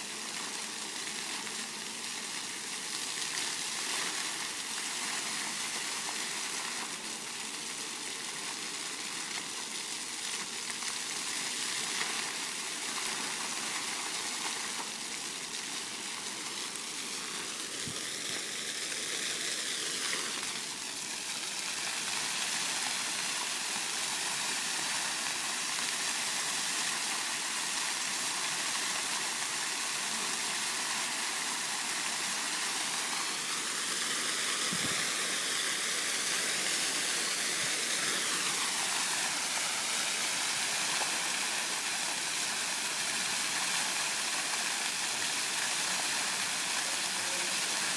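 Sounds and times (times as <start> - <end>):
fountain water splashing on paving: 0.0 - 47.9.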